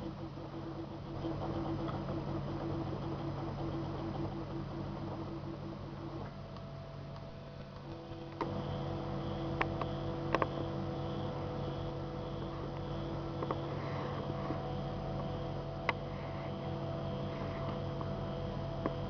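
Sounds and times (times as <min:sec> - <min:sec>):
stepper motors humming: 0:00.0 - 0:19.0.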